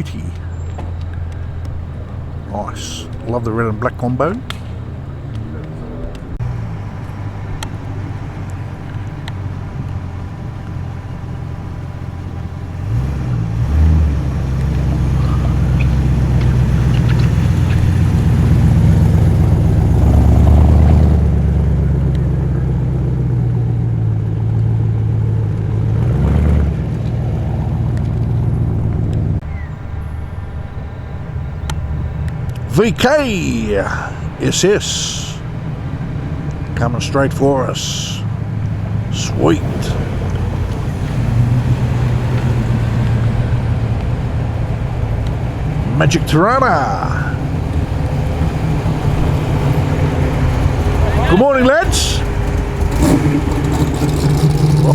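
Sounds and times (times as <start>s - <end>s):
car engine revving: 0.0s - 54.9s
muscle car engines rumbling: 0.0s - 54.9s.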